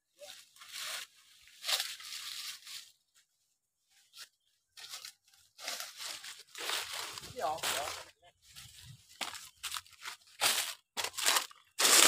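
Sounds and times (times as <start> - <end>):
rustling and crunching: 0.2 - 3.3, 4.0 - 12.0.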